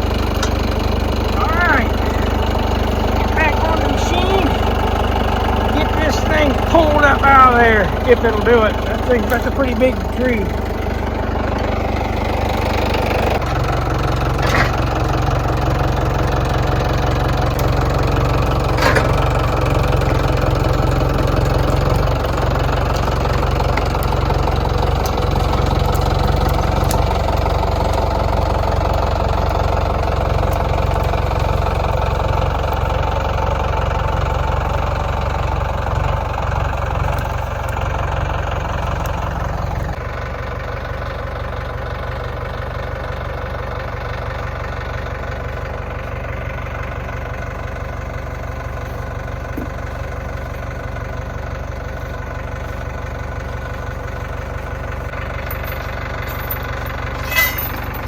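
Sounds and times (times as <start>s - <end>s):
engine running under load: 0.0s - 58.0s.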